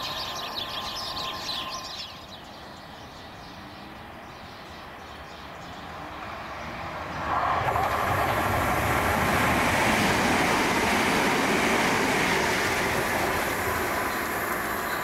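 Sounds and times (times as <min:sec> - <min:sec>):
train wheel-on-rail noise: 0:00.0 - 0:15.0.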